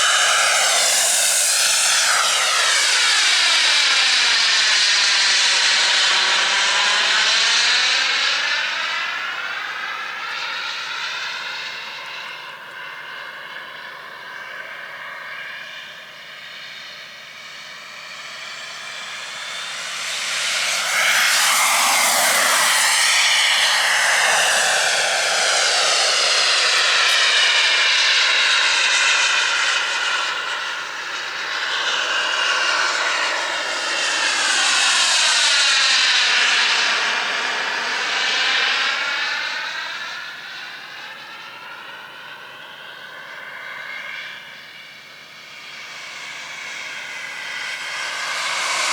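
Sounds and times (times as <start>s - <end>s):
jet turbine whine: 0.0s - 48.9s.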